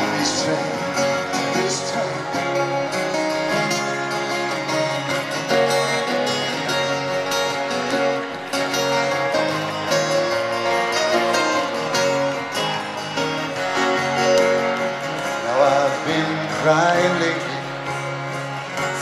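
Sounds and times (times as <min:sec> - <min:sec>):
acoustic guitar strummed: 0:00.0 - 0:19.0.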